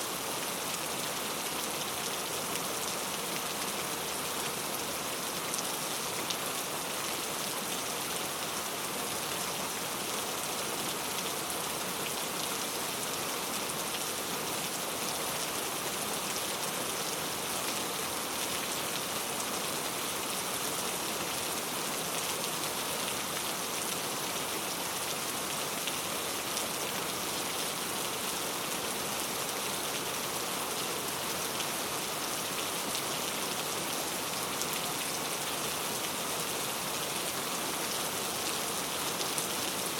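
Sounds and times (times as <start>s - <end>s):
very heavy rain: 0.0s - 39.9s.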